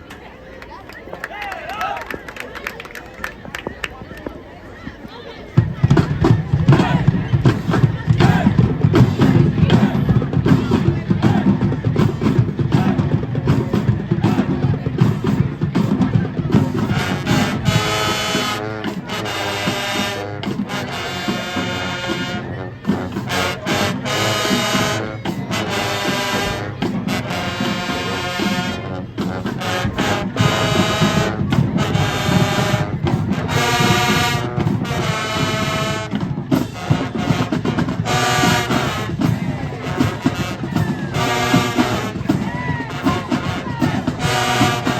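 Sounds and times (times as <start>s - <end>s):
marching band percussion: 5.6s - 44.9s
brass section chords: 5.7s - 44.9s.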